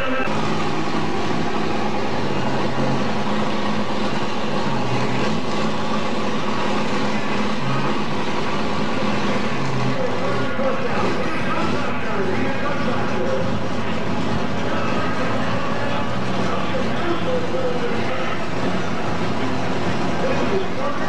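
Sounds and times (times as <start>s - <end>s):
tractor engine running loudly: 0.0s - 21.0s.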